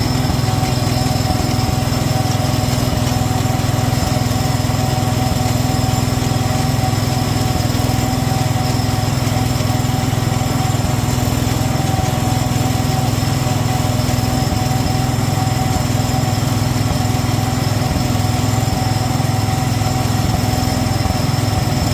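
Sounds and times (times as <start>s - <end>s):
garden tractor engine running: 0.0s - 21.9s.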